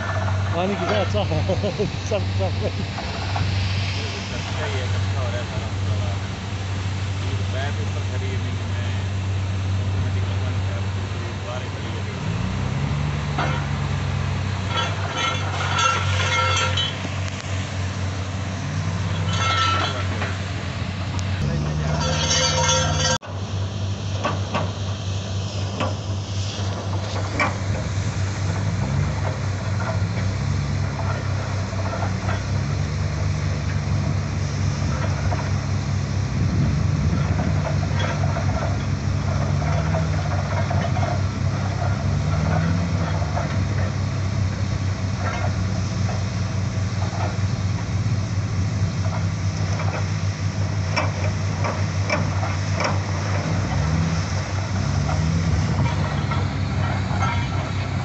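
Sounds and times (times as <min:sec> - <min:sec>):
metallic clanks: 0:00.0 - 0:06.0, 0:13.3 - 0:13.9, 0:14.6 - 0:23.4, 0:24.1 - 0:35.8, 0:36.9 - 0:58.0
steady hiss: 0:00.0 - 0:22.7, 0:23.3 - 0:58.0
drilling rig engine running: 0:00.0 - 0:58.0.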